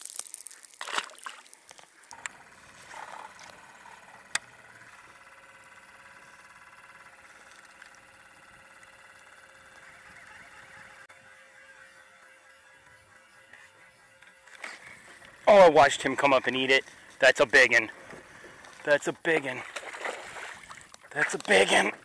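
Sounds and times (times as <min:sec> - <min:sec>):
fishing reel gear whir: 0:01.7 - 0:19.8.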